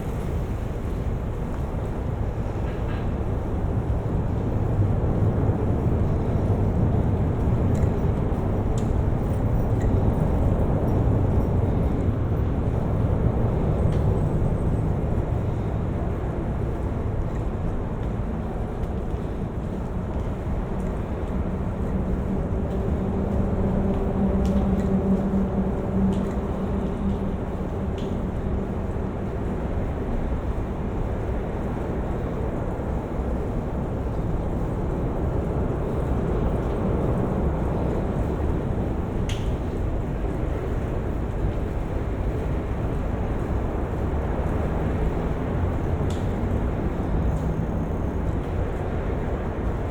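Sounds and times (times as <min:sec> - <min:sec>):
road traffic rumble: 0:00.0 - 0:49.9
wind: 0:00.0 - 0:49.9.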